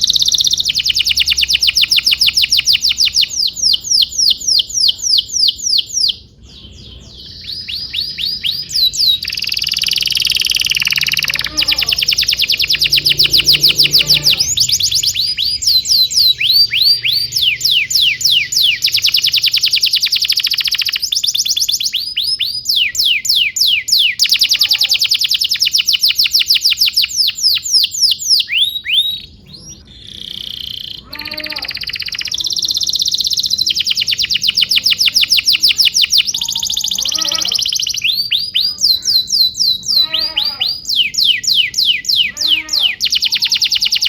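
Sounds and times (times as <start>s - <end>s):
canary singing fast trills: 0.0s - 44.0s.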